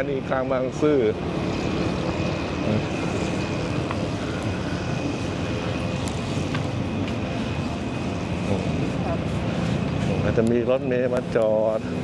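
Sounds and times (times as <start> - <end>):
bus engine and traffic rumble: 0.0 - 12.0
high whine: 0.0 - 12.0.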